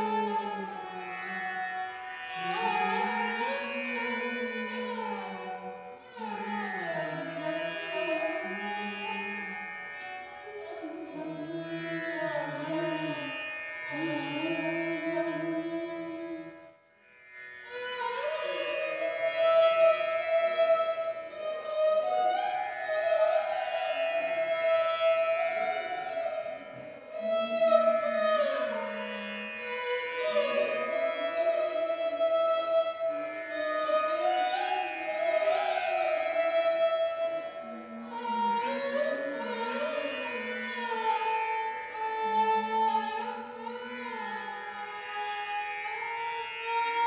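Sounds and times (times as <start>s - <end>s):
slow indian classical melody: 0.0s - 47.0s.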